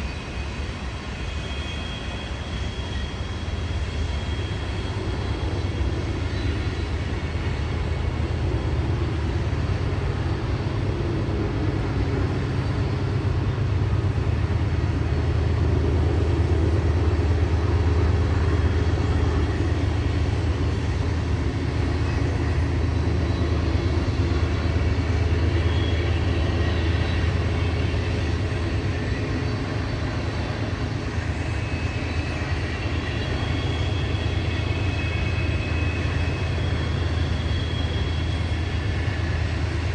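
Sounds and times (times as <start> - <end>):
faint high squeals: 0.0 - 10.8, 11.6 - 39.9
freight train rumble: 0.0 - 39.9.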